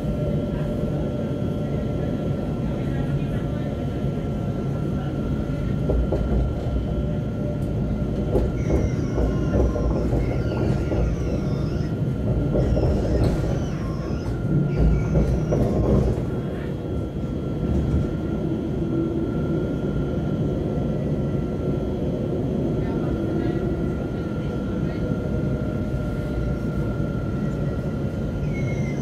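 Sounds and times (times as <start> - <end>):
tram wheels rumbling on rail: 0.0 - 29.0.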